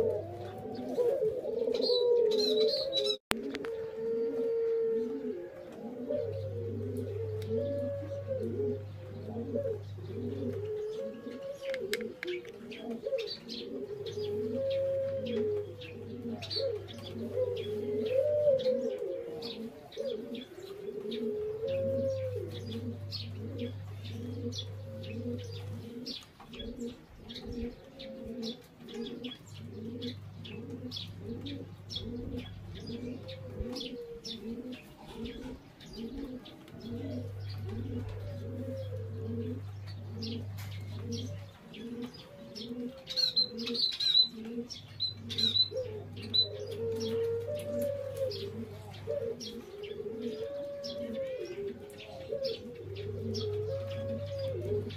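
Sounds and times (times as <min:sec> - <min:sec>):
doves cooing: 0:00.0 - 0:54.9
small birds chirping: 0:05.0 - 0:54.9.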